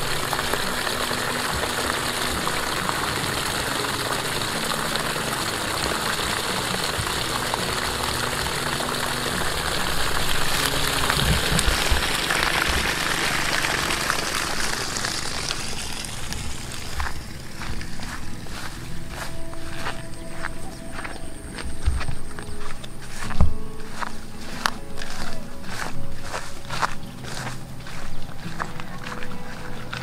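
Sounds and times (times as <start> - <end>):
water gushing from a pipe: 0.0 - 30.0
water splashing onto ground: 0.0 - 30.0.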